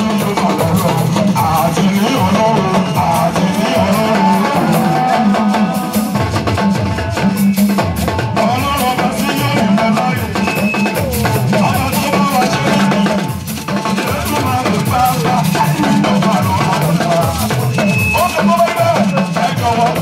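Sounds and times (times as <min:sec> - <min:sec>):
drum kit and percussion beat: 0:00.0 - 0:20.0
man singing through a microphone: 0:00.0 - 0:20.0.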